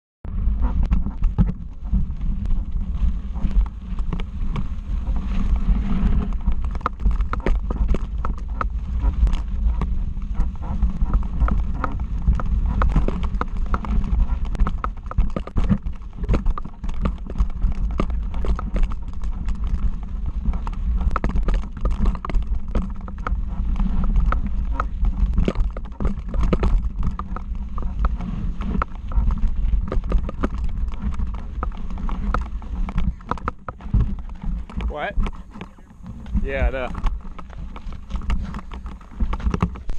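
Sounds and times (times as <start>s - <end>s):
low rumble: 0.3s - 15.0s, 22.5s - 39.9s
bike clattering over stones: 0.9s - 39.9s.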